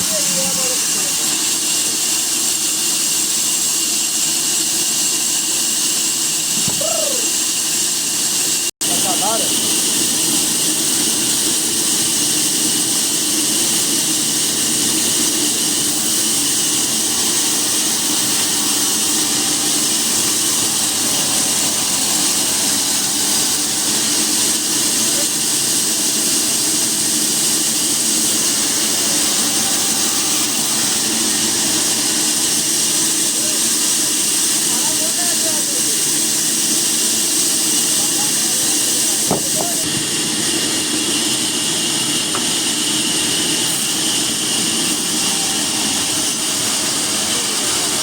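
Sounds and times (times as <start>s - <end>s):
machine hissing: 0.0s - 48.0s.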